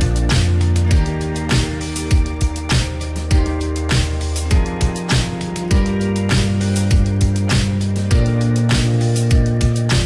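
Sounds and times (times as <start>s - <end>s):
held bass notes: 0.0s - 10.0s
steady drum beat: 0.0s - 10.0s.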